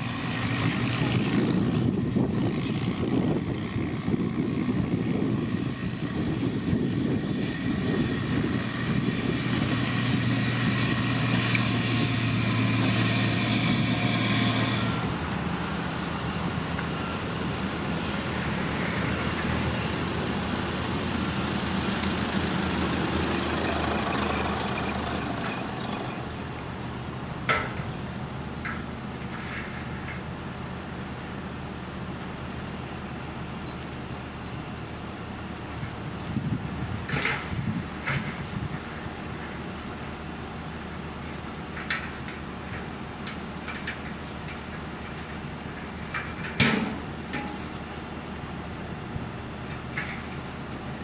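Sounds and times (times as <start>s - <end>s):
heavy diesel machinery running: 0.0s - 51.0s.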